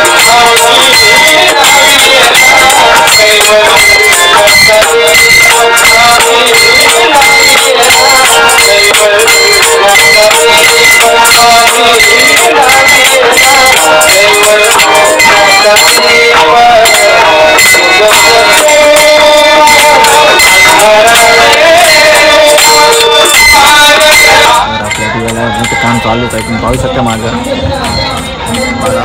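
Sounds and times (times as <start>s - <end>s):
loud music with melody: 0.0s - 29.0s.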